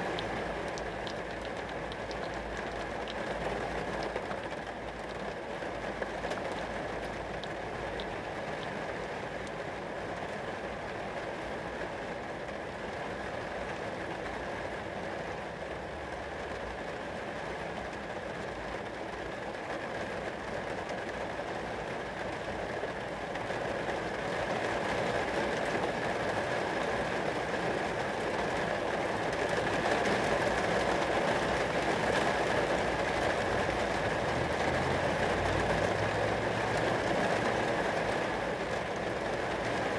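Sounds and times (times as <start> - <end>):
rain on glass: 0.0 - 39.9.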